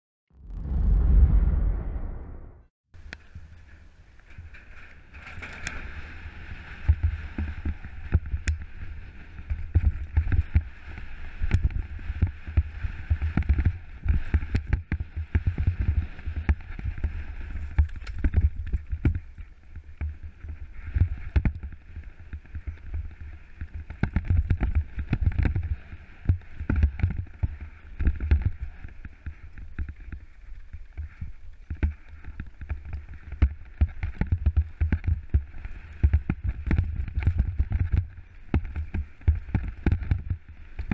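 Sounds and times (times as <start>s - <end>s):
wind rumble on microphone: 0.3s - 40.9s
bike rattling over rocks: 4.2s - 40.9s.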